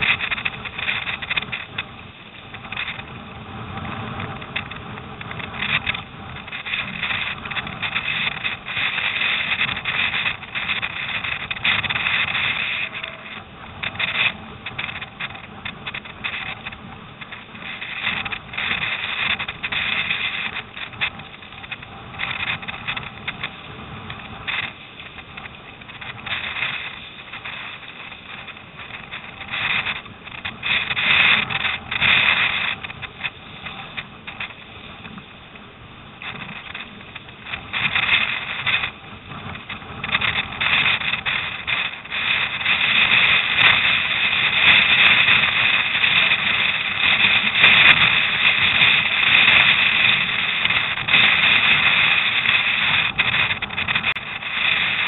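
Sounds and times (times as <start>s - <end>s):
water splashing around hull: 0.0s - 55.0s
wind on microphone: 0.0s - 55.0s.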